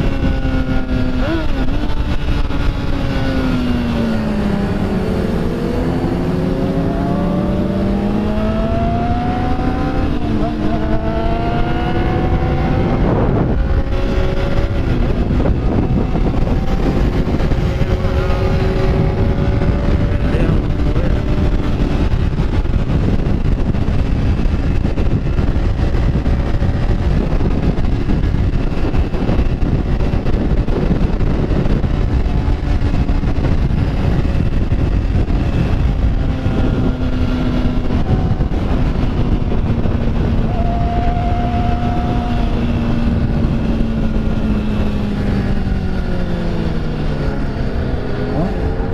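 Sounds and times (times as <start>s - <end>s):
motorcycle engine: 0.0s - 48.9s
wind rush on microphone: 0.0s - 48.9s.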